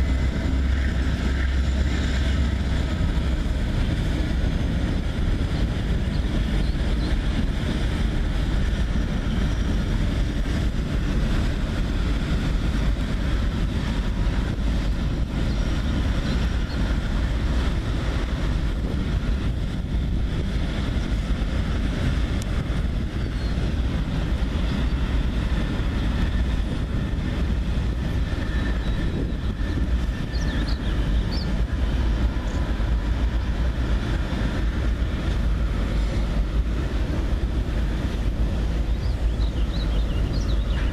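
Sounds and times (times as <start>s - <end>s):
freight train rumbling over bridge: 0.0s - 40.9s
wind buffeting microphone: 0.0s - 40.9s.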